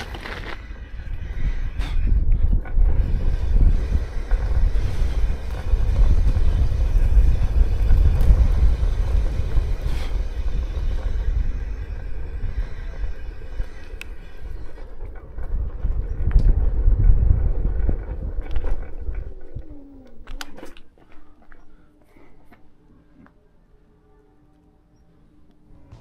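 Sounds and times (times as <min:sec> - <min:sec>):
wind buffeting camera: 0:00.0 - 0:21.0
wheels on rough track: 0:00.0 - 0:21.8.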